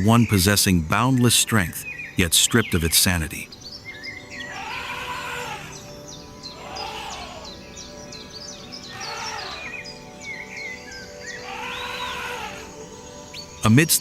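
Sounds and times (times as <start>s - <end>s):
background music with held tones: 0.0s - 14.0s
high bird chirps: 1.8s - 13.7s.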